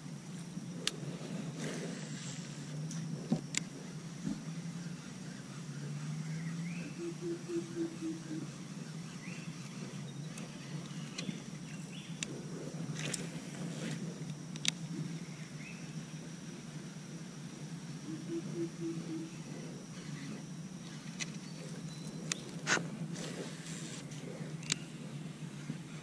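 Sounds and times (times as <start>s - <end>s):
high insect drone: 0.0s - 26.0s
low steady hum: 0.0s - 26.0s.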